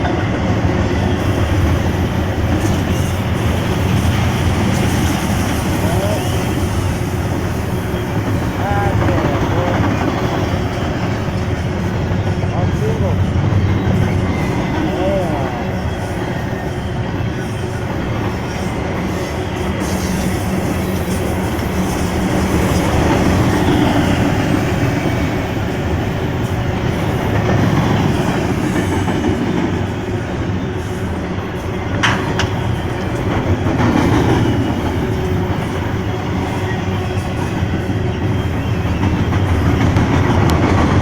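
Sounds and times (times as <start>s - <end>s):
freight train rumbling past: 0.0s - 41.0s
wheels clacking over rail joints: 0.0s - 41.0s.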